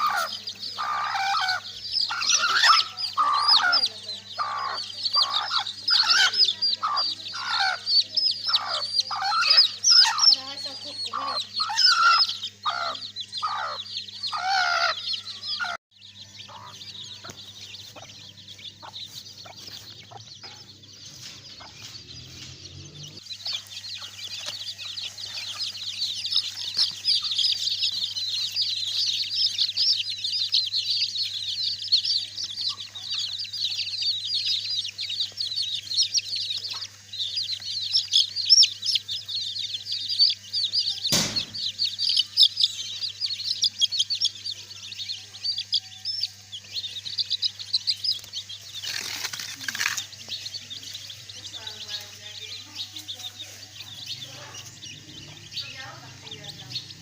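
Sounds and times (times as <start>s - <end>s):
chicks peeping: 0.0s - 57.0s
hen clucking: 0.0s - 57.0s.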